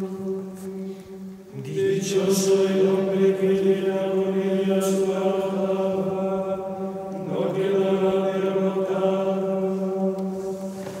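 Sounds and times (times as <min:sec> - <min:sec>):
chant-style droning note: 0:00.0 - 0:11.0.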